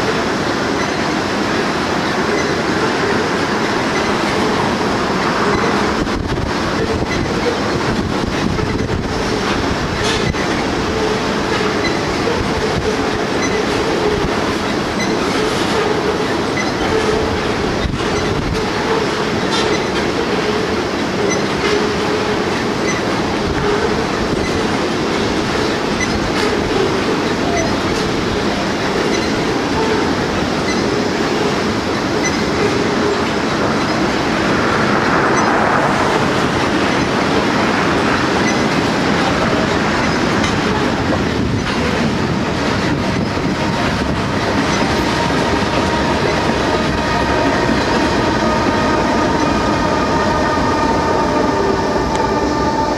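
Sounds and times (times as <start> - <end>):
locomotive whine: 0.0 - 52.9
train wheels rumbling and clacking: 0.0 - 52.9.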